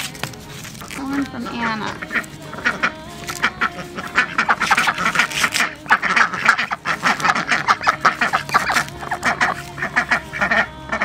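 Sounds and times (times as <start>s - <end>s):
corn husks being torn: 0.0s - 11.0s
ducks quacking: 0.7s - 11.0s.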